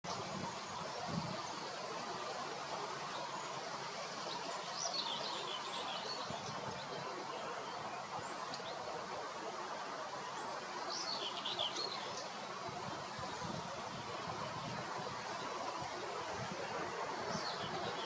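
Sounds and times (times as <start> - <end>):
steady background hiss: 0.1 - 18.0.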